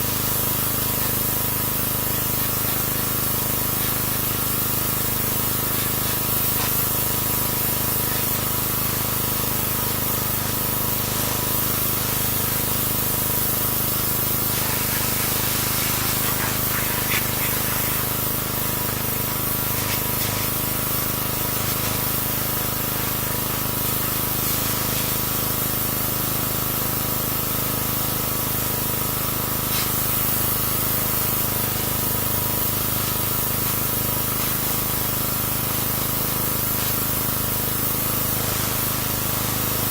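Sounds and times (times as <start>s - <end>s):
pressure washer spraying: 0.0s - 39.9s.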